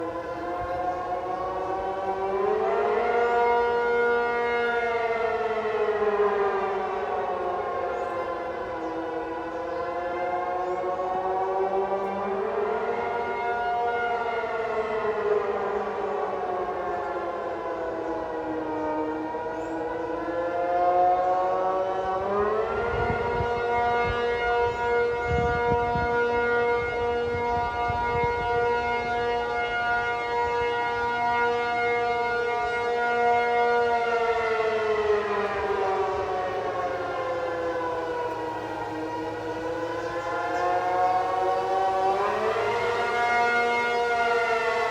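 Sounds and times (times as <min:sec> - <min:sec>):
air-raid siren wailing: 0:00.0 - 0:44.9.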